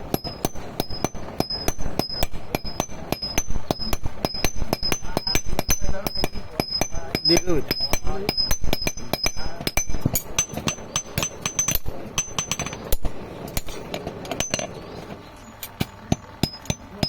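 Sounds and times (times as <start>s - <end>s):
hammers striking iron on anvil: 0.0s - 14.8s, 15.8s - 17.0s.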